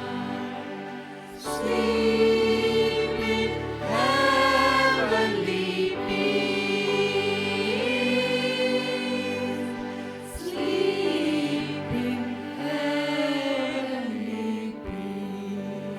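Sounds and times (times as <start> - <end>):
choir singing: 0.0 - 15.9.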